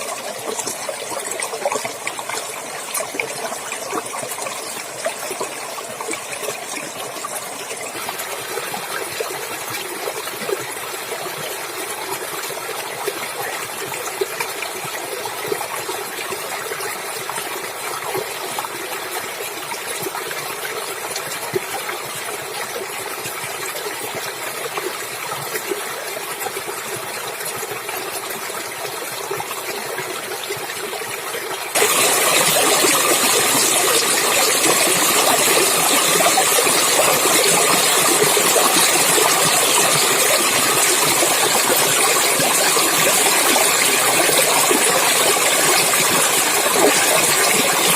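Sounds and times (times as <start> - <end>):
stream water splashing: 0.0 - 47.9.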